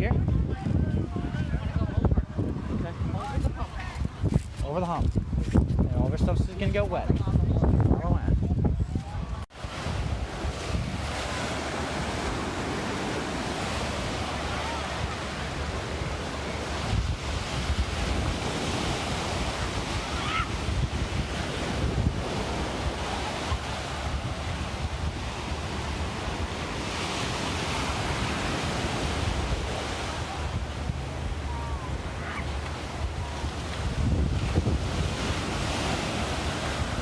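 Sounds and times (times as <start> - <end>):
waves breaking and washing in: 0.0 - 37.0
wind rumbling on microphone: 0.0 - 37.0.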